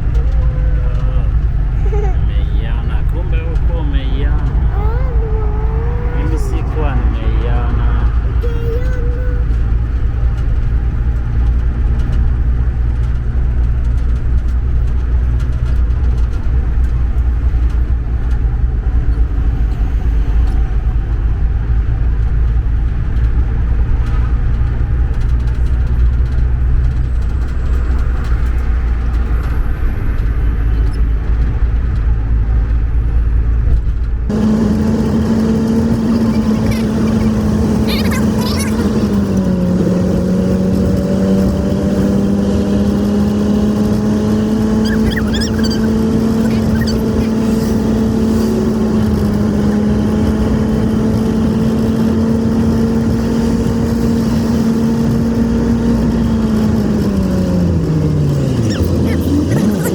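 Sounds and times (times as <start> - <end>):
motor vehicle rumble: 0.0 - 59.9.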